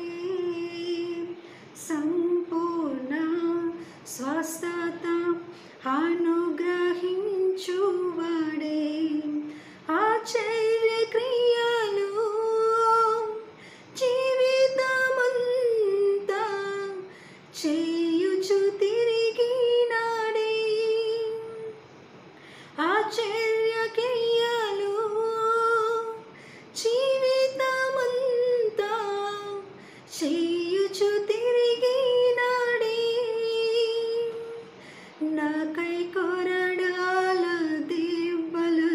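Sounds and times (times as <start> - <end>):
woman singing hymn unaccompanied: 0.0 - 21.8, 22.8 - 38.9.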